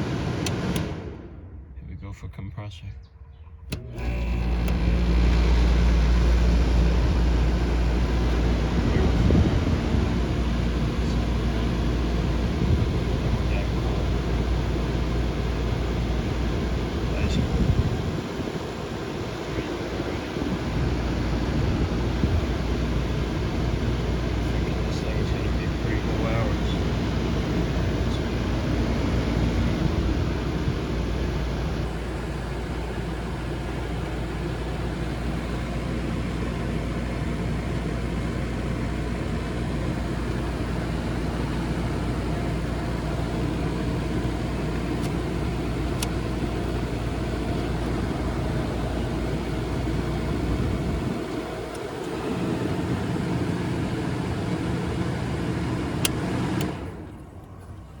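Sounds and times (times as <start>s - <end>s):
air conditioner fan rushing: 0.0s - 1.9s, 3.4s - 58.0s
air conditioner compressor hum: 0.0s - 58.0s.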